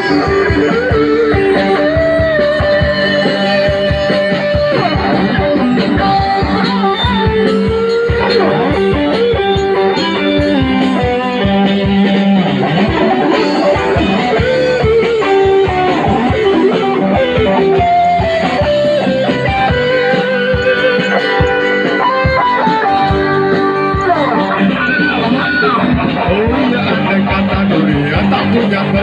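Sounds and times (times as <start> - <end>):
bass: 0.0 - 29.0
electric guitar melody with bent notes: 0.0 - 29.0
steady drum beat: 0.0 - 29.0.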